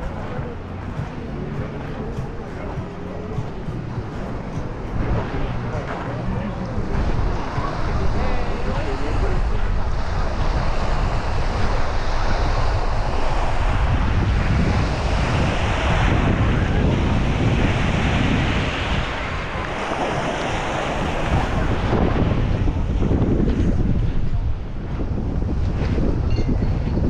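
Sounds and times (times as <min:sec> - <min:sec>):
small sea waves on shore: 0:00.0 - 0:24.9
wind buffeting microphone: 0:00.0 - 0:27.0.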